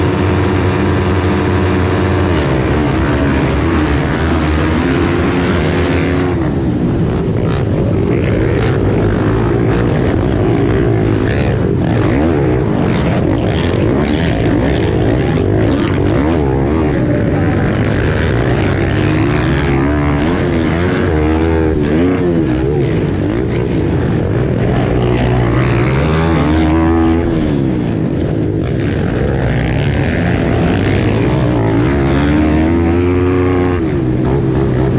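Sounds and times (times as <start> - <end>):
pit bike engines revving: 0.0 - 34.9.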